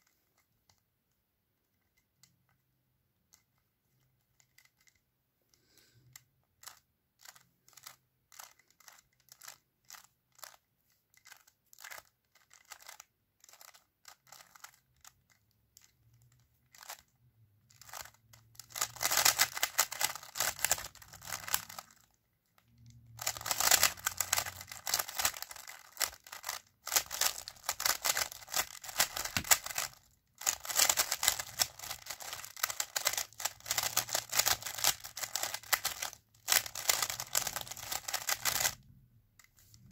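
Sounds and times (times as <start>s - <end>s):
plastic puzzle cube clicking turns: 0.0s - 0.9s, 1.6s - 39.9s.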